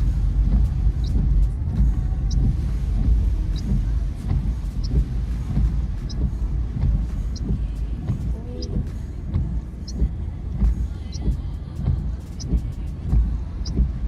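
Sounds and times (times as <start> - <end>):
road rumble inside car: 0.0 - 14.0.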